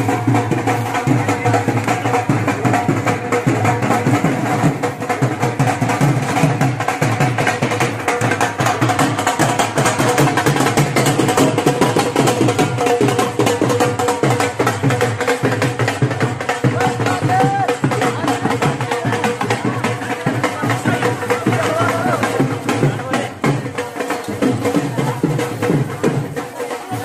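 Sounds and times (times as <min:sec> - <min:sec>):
drum beaten in steady rhythm: 0:00.0 - 0:27.0.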